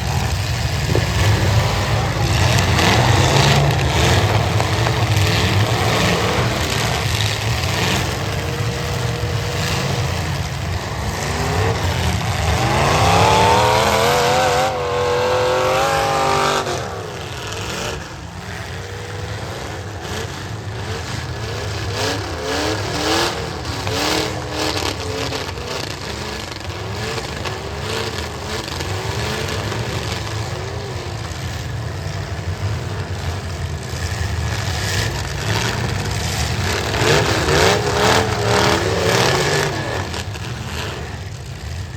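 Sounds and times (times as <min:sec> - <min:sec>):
car engines rumbling: 0:00.0 - 0:41.9
engine revving: 0:00.0 - 0:41.9.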